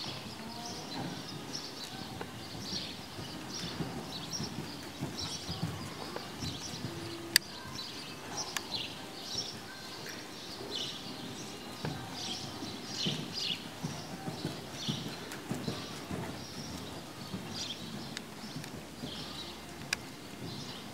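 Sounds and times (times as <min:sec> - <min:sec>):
horse trotting on sand: 0:00.0 - 0:20.9.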